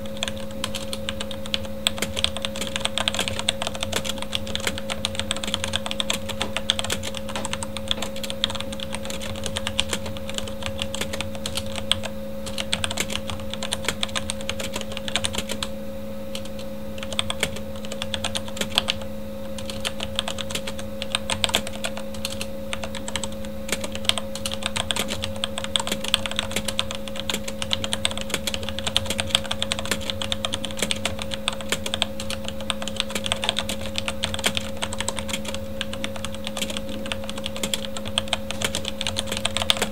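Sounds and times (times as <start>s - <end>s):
fast typing on mechanical keyboard: 0.0s - 15.7s, 16.3s - 39.9s
computer fan hum: 0.0s - 39.9s.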